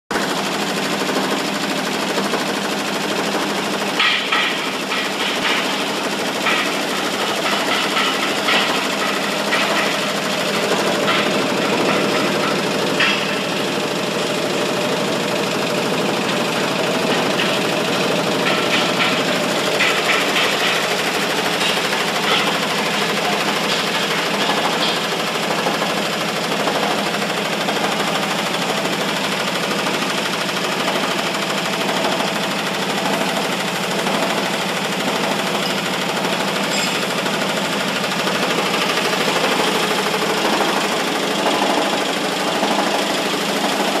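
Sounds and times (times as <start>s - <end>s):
vibrating screen rattling and humming: 0.2s - 44.0s.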